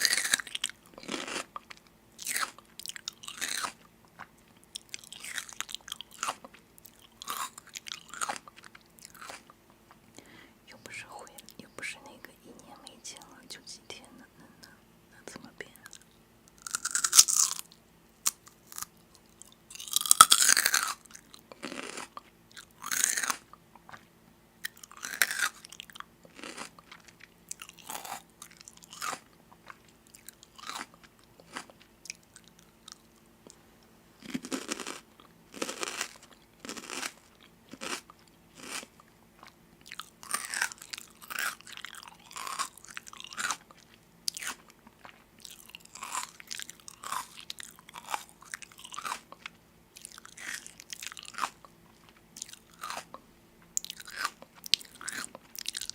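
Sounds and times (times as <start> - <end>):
crunchy food being chewed: 0.0 - 10.4, 15.4 - 55.9
faint steady hum: 0.0 - 55.9.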